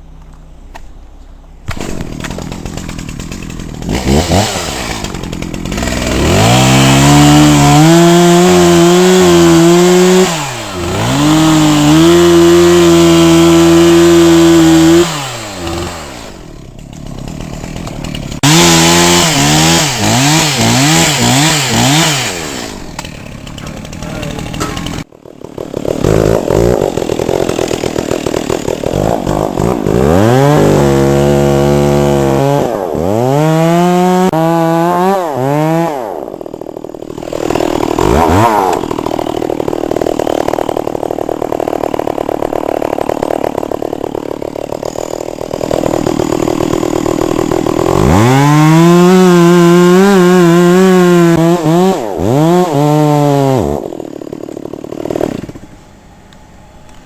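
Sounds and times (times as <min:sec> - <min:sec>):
chainsaw revving cutting wood: 0:01.7 - 0:55.7.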